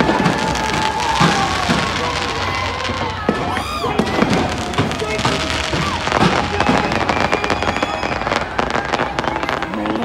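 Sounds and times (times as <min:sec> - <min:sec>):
fireworks crackling and popping: 0:00.0 - 0:10.0.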